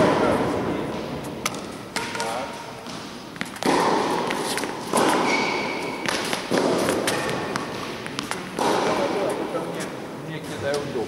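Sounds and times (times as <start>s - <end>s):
tennis balls bouncing on hard floor: 0.0s - 9.4s.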